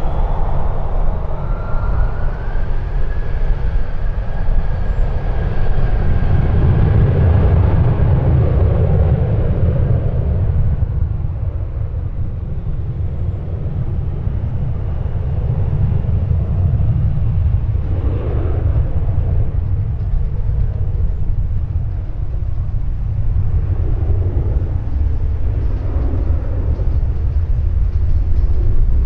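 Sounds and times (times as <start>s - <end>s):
jet airliner engines: 0.0s - 29.0s
wind buffeting microphone: 0.0s - 29.0s.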